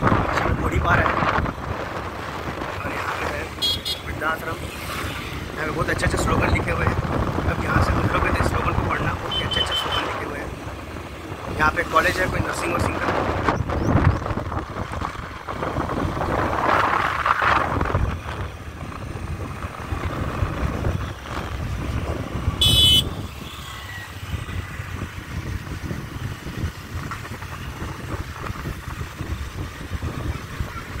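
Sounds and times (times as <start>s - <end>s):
motorcycle engine rumble: 0.0s - 31.0s.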